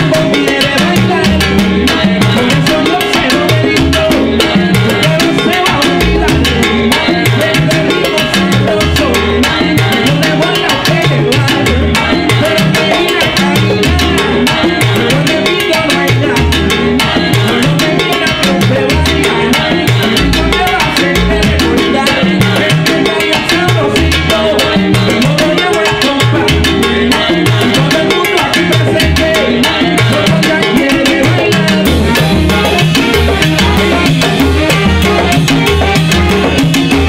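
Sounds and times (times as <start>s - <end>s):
hand drums and percussion: 0.0s - 37.0s
repeating bass line: 0.0s - 37.0s
salsa big band playing: 0.0s - 37.0s.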